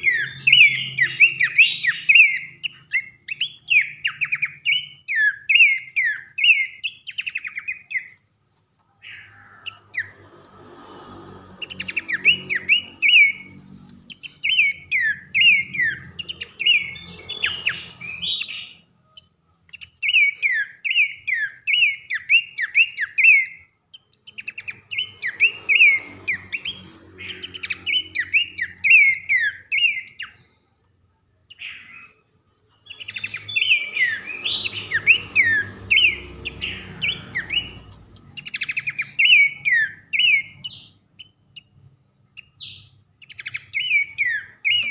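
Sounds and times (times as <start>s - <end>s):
bird singing whistled notes: 0.0s - 8.2s, 9.0s - 10.6s, 11.3s - 30.6s, 31.5s - 44.9s.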